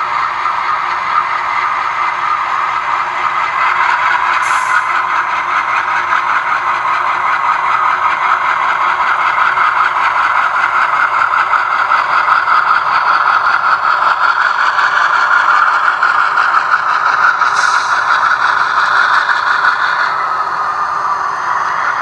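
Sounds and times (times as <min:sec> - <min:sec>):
diesel engine sound from small speaker: 0:00.0 - 0:22.0.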